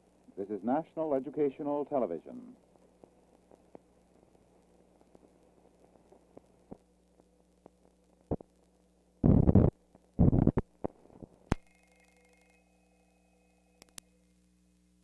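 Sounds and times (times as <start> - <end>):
film crackles and pops: 0.0 - 15.0
steady hum: 0.0 - 15.0.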